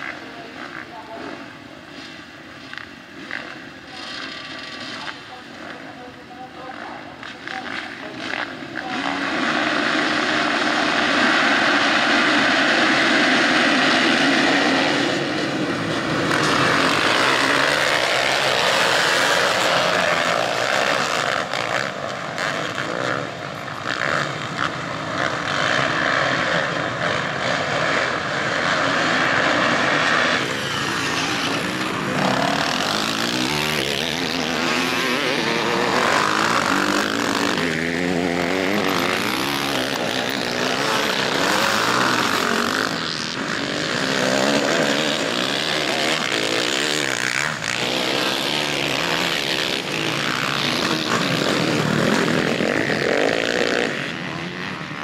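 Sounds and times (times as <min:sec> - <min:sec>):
motocross engines revving: 0:00.0 - 0:55.0.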